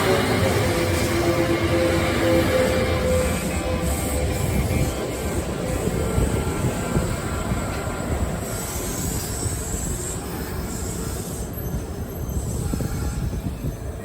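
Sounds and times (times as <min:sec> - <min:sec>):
electric train passing: 0:00.0 - 0:14.0
wheels squealing on rails: 0:00.0 - 0:14.0.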